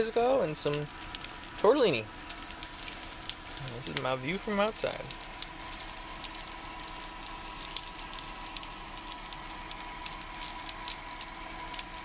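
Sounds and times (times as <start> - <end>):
food popping and crackling: 0.0 - 12.0
high electrical whine: 0.0 - 12.0.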